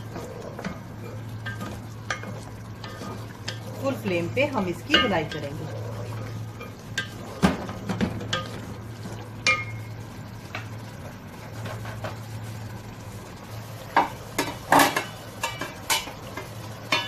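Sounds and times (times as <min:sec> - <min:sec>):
food frying in oil: 0:00.0 - 0:17.0.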